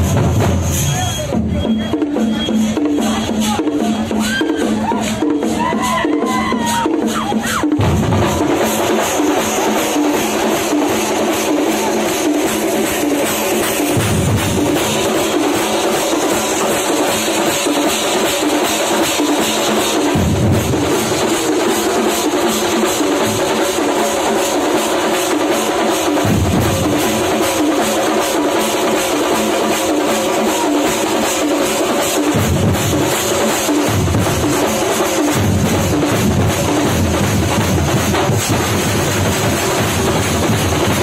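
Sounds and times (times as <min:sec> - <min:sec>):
percussion troupe drumming: 0:00.0 - 0:41.0.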